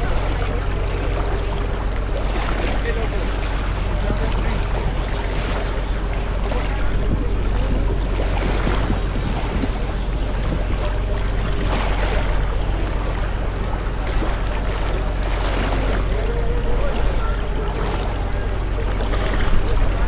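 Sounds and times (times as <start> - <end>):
murmur of voices: 0.0 - 20.0
surf washing: 0.0 - 20.0
wind rumble on microphone: 0.0 - 20.0.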